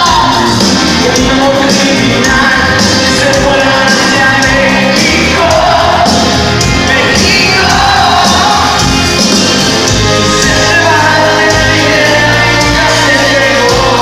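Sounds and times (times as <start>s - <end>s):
person singing: 0.0s - 14.0s
rock band playing live: 0.0s - 14.0s
steady drum beat: 0.0s - 14.0s.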